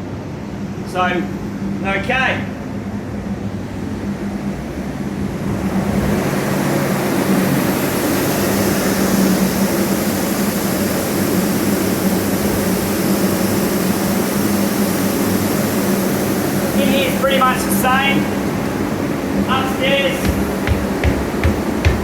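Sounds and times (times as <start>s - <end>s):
fans whooshing drone: 0.1s - 22.0s.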